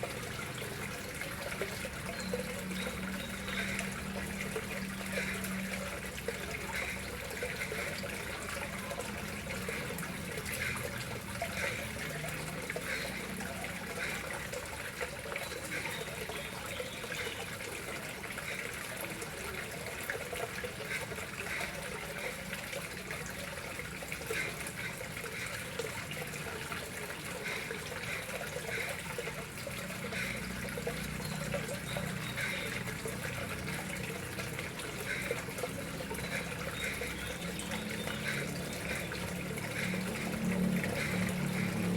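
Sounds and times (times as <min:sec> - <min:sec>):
water trickling into pond: 0:00.0 - 0:41.9.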